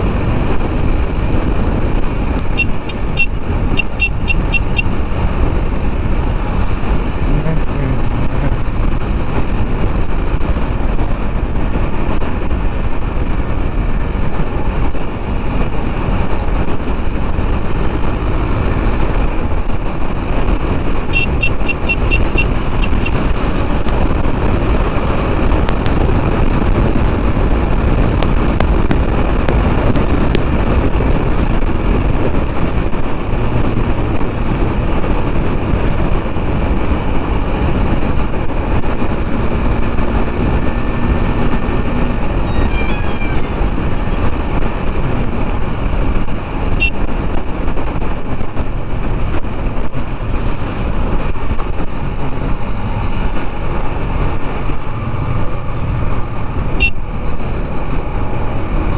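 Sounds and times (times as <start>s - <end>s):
highway traffic: 0.0s - 58.9s
wind and road noise: 0.0s - 58.9s.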